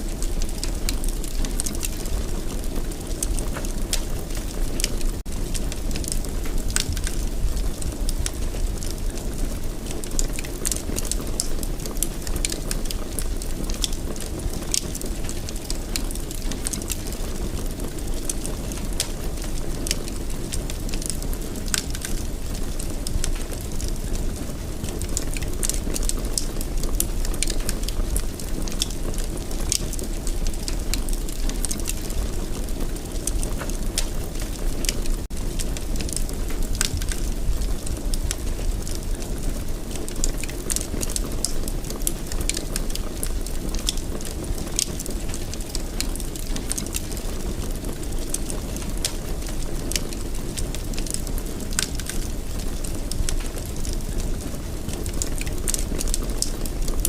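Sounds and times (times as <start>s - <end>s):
fire crackles and pops: 0.0s - 57.0s
wood fire burning: 0.0s - 57.0s.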